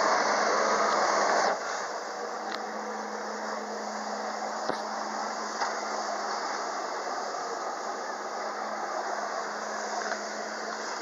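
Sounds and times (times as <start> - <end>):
engine humming: 0.0 - 11.0
water jets rushing hiss: 0.0 - 11.0.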